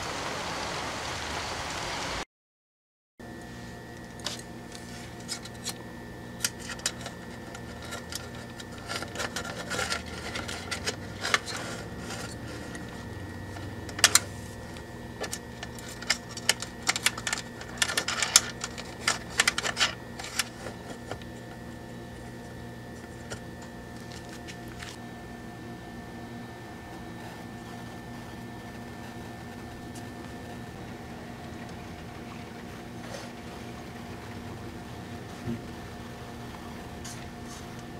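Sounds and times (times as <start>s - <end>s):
faint hum: 3.2s - 37.9s.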